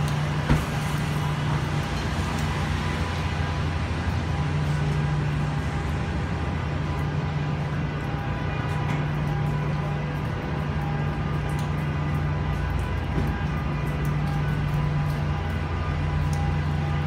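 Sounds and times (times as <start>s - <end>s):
constant rushing noise: 0.0s - 17.0s.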